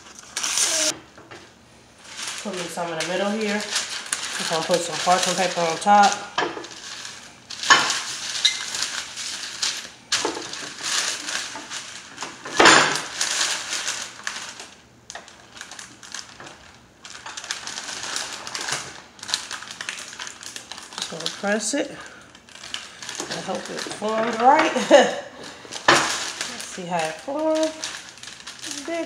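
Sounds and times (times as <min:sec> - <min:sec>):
parchment paper crinkling: 0:00.0 - 0:29.0.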